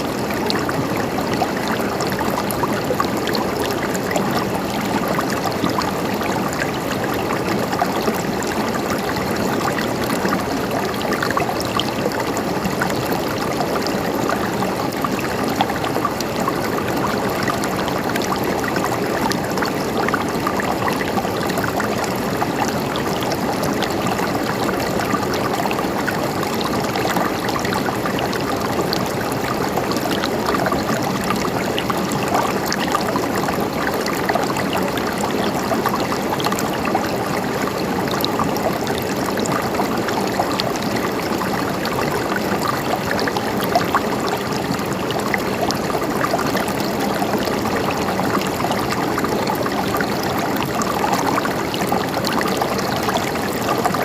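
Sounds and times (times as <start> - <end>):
river water gurgling over rocks: 0.0 - 54.0.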